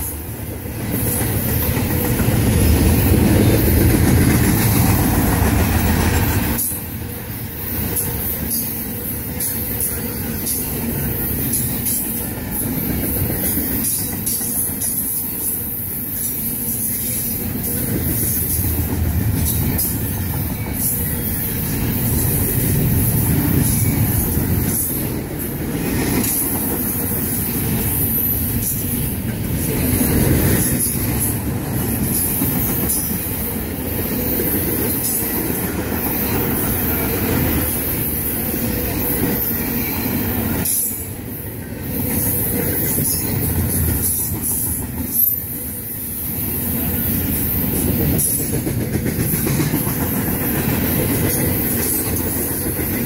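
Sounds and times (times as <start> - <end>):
freight train wheels rumbling on rail: 0.0 - 53.0.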